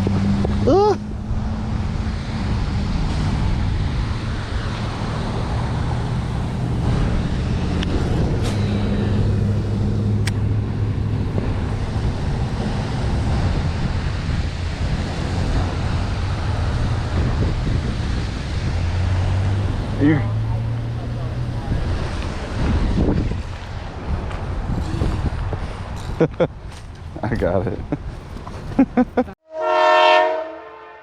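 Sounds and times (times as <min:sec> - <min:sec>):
road traffic engine hum: 0:00.0 - 0:30.4.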